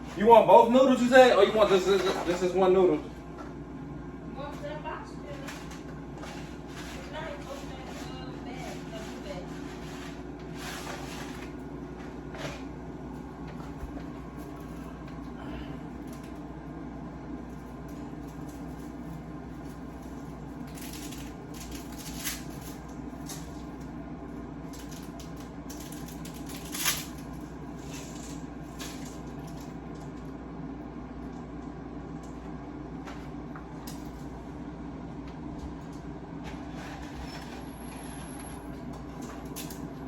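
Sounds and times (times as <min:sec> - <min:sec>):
air fryer humming: 0:00.0 - 0:40.0.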